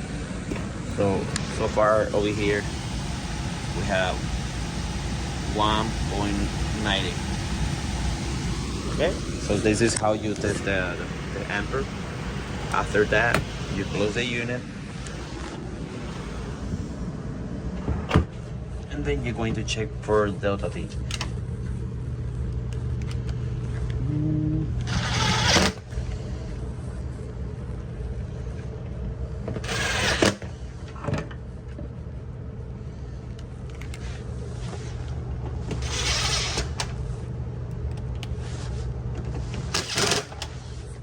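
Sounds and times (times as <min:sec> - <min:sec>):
air handler blower humming: 0:00.0 - 0:41.0.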